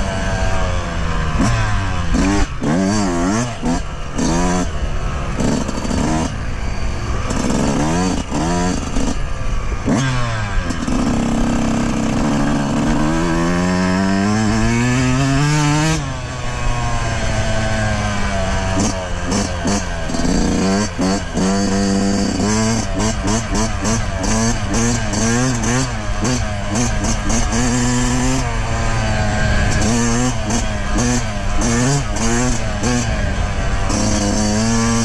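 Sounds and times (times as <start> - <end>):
two-stroke engine revving: 0.0 - 35.0.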